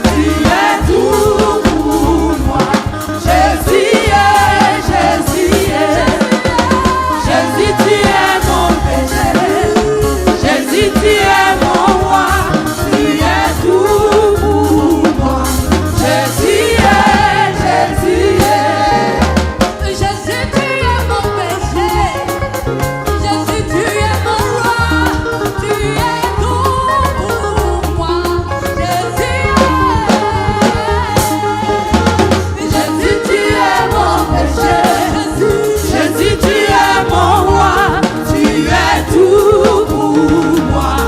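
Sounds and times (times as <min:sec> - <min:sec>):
gospel choir singing: 0:00.0 - 0:27.6, 0:28.5 - 0:41.0
band with drum kit: 0:00.0 - 0:41.0.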